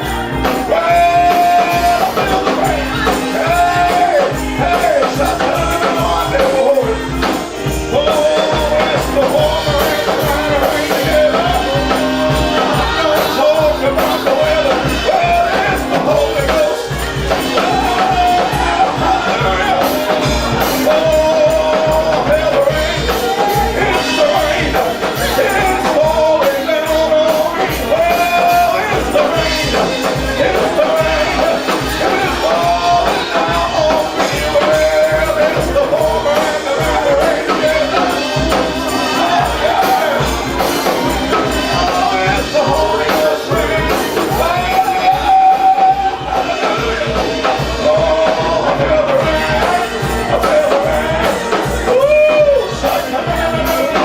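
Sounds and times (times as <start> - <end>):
church band playing: 0.0 - 54.0
tambourine: 0.0 - 54.0
voices singing: 0.0 - 54.0.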